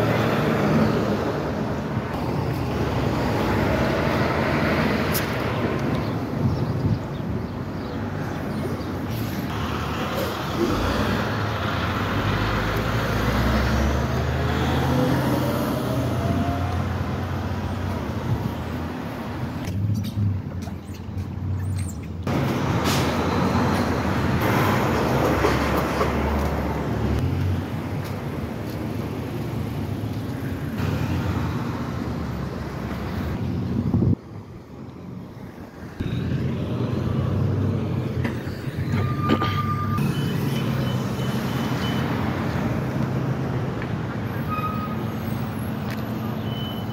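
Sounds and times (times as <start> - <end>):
traffic rumble: 0.0 - 46.9.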